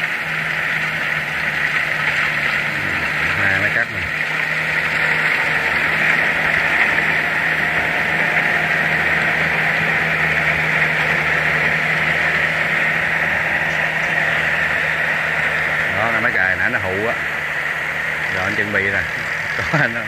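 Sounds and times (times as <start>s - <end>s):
diesel engine hum: 0.0s - 20.0s.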